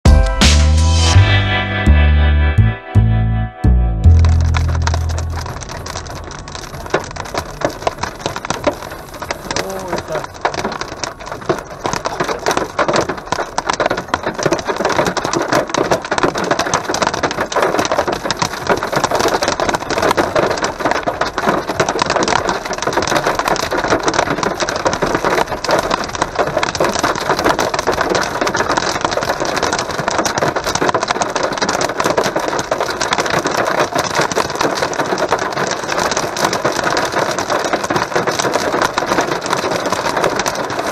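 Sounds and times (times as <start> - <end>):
heavy rain on car roof: 4.0 - 40.9.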